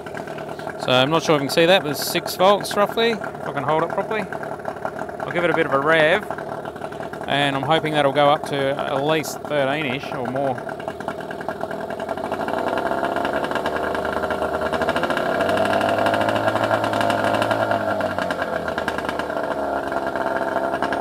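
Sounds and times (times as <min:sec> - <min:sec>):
outboard motor revving: 0:00.0 - 0:21.0.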